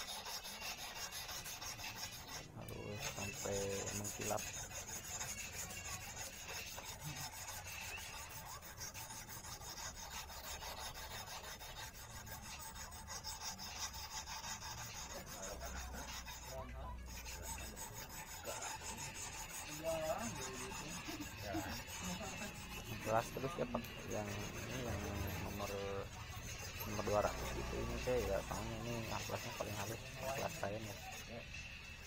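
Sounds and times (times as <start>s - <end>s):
wire rubbing on abrasive: 0.0s - 32.0s.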